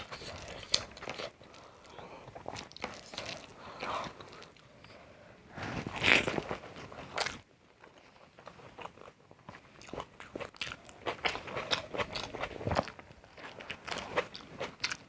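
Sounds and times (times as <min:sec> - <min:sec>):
chewing crunchy food: 0:00.0 - 0:04.7, 0:05.9 - 0:15.0.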